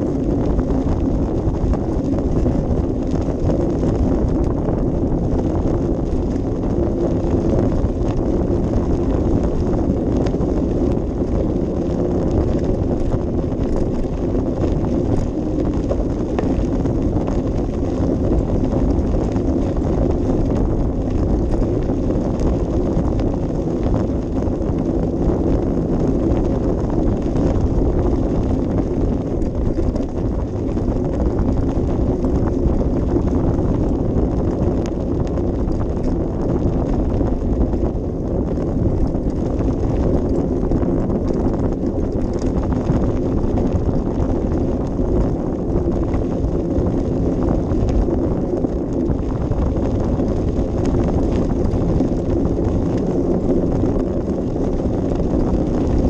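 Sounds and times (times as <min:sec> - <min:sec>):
bicycle rolling on rough path: 0:00.0 - 0:56.0
wind buffeting microphone: 0:00.0 - 0:56.0.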